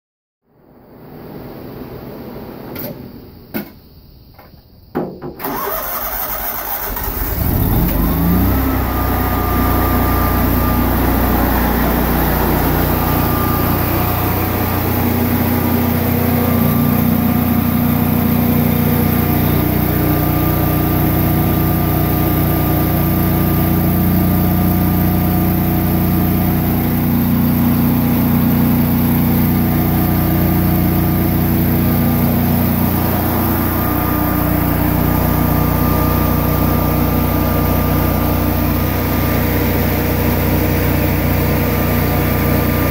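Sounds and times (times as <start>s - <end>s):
generator engine cranking and running: 5.4s - 42.9s.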